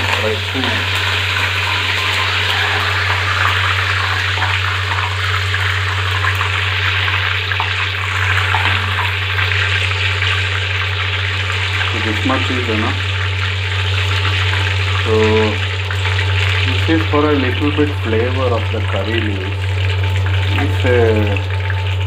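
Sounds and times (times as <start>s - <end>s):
leaves sizzling in hot oil: 0.0s - 22.0s
steady low hum: 0.0s - 22.0s.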